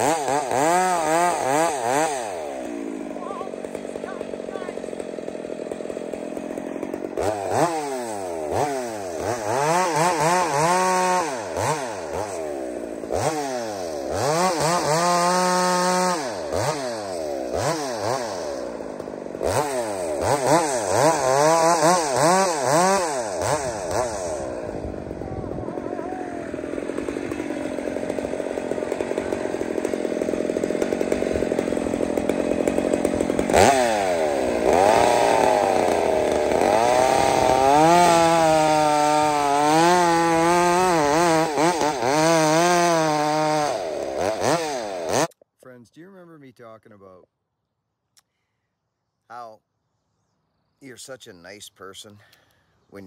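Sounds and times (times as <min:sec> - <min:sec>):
chainsaw revving and cutting log: 0:00.0 - 0:45.4.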